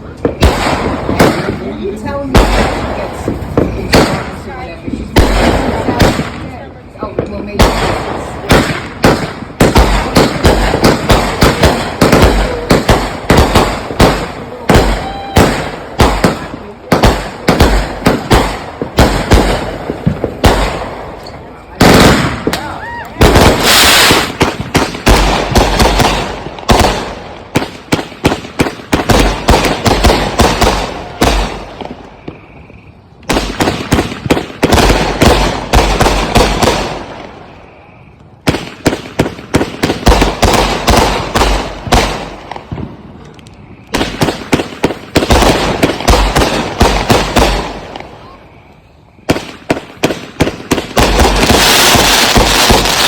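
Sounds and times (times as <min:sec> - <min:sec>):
firework volleys of sharp bangs: 0:00.0 - 0:53.0.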